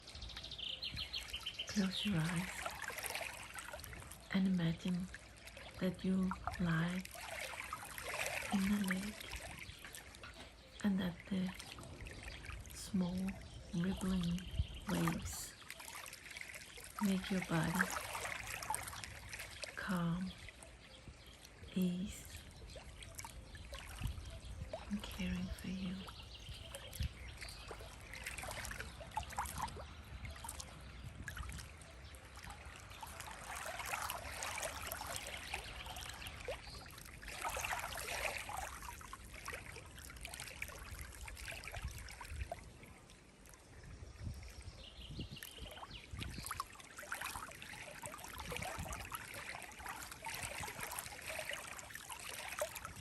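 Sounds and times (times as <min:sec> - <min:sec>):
small waves lapping: 0:00.0 - 0:53.0.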